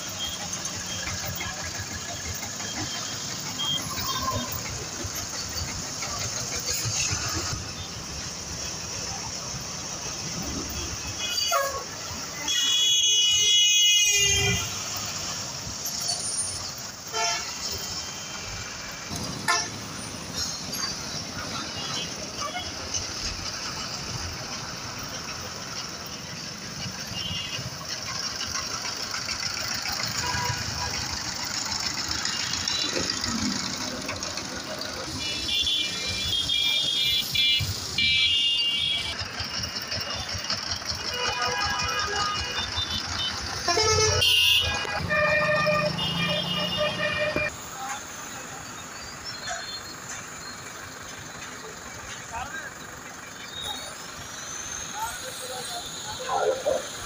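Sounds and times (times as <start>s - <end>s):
diesel truck engines: 0.0s - 57.0s
road noise: 0.0s - 57.0s.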